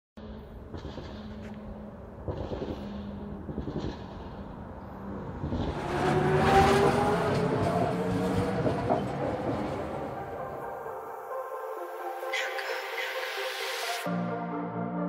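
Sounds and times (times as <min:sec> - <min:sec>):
tram rolling past: 0:00.2 - 0:14.0.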